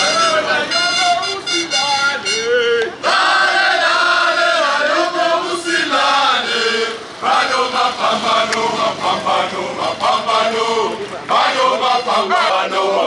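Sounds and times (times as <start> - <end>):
crowd singing a protest chant: 0.0 - 13.0.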